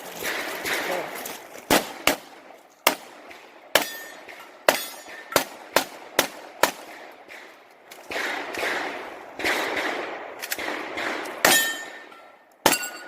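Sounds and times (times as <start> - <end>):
pistol shots: 0.1 - 13.0.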